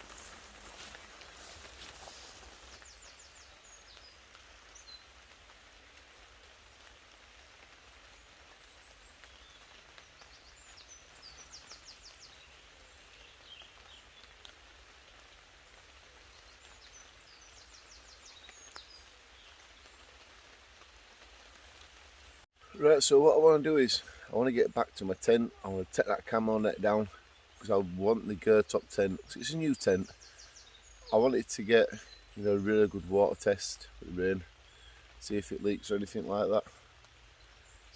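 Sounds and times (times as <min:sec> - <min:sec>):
light rain falling: 0:00.0 - 0:37.9.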